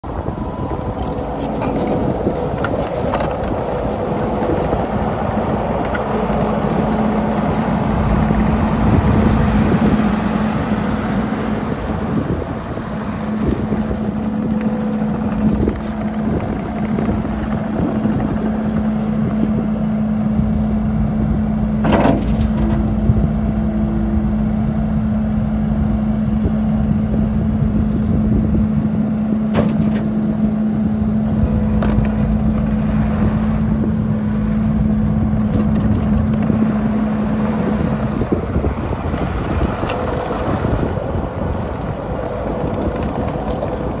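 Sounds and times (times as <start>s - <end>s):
diesel engine rumbling: 0.0s - 44.0s
wind on microphone: 0.0s - 44.0s.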